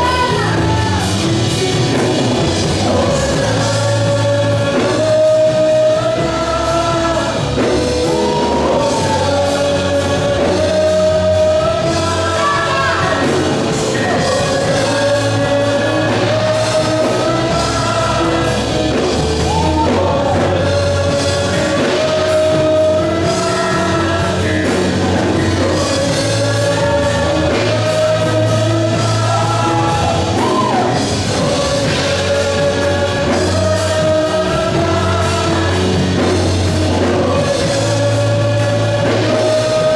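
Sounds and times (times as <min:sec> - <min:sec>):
person singing long notes: 0:00.0 - 0:39.9
rock band playing: 0:00.0 - 0:39.9
steady bass: 0:00.0 - 0:39.9.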